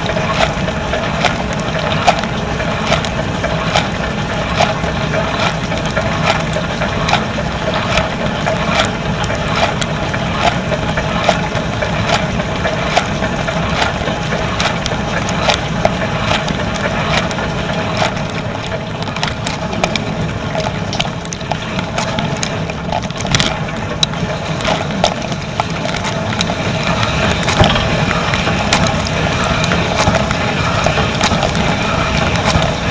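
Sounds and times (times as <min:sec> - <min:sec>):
dishwasher pump hum: 0:00.0 - 0:32.9
water spattering inside machine: 0:00.0 - 0:32.9
water spraying: 0:00.0 - 0:32.9.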